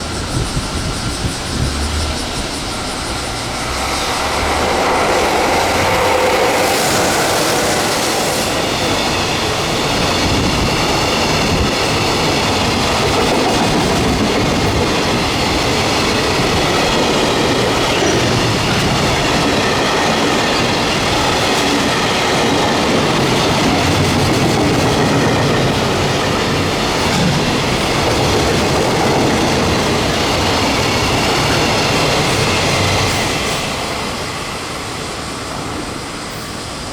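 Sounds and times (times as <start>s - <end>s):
train wagons rolling over rails: 0.0s - 36.9s.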